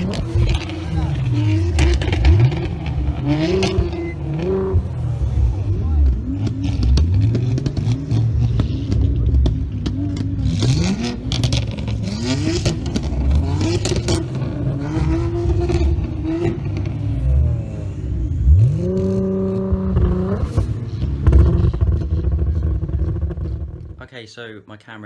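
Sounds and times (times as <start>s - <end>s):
car engine revving: 0.0s - 24.0s
exhaust pops and bangs: 0.0s - 24.0s.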